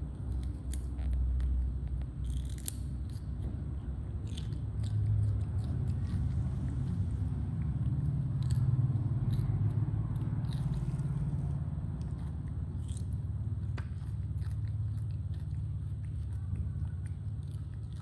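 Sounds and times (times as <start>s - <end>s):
monkeys crunching vegetables: 0.0s - 18.0s
steady low hum: 0.0s - 18.0s.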